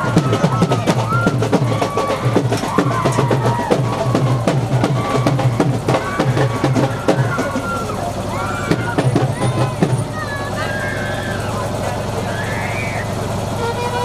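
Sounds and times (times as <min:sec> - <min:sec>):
fast busy drumming: 0:00.0 - 0:14.0.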